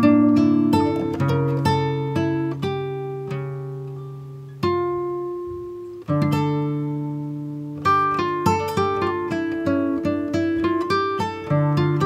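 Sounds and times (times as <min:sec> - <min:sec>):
plucked string instrumental: 0:00.0 - 0:12.0.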